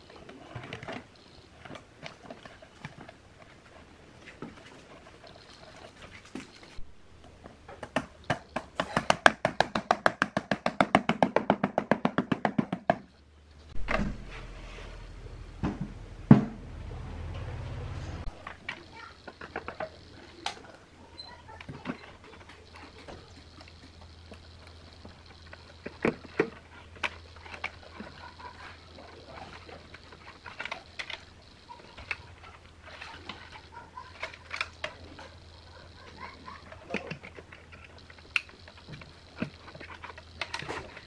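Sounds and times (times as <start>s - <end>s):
low steady hum: 0.0s - 9.0s, 13.1s - 41.0s.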